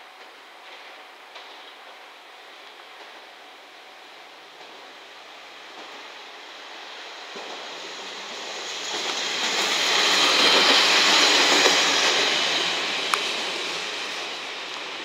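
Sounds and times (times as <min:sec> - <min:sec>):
diesel railcar passing on rails: 0:00.1 - 0:15.0.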